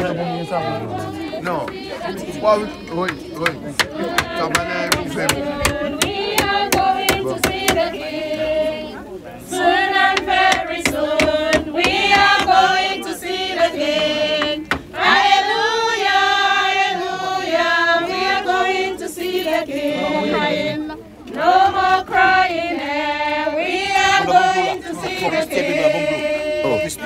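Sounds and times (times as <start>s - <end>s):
crowd singing a hymn: 0.0s - 27.0s.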